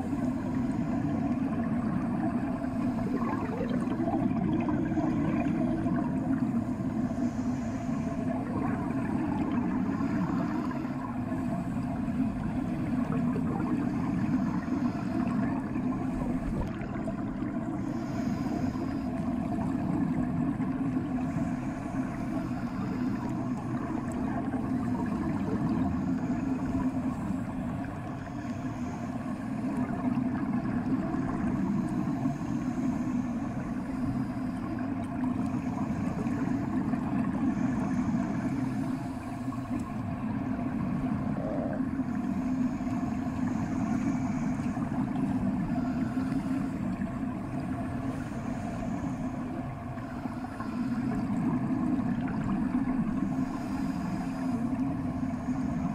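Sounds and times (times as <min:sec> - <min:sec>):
muffled underwater rumble: 0:00.0 - 0:55.9.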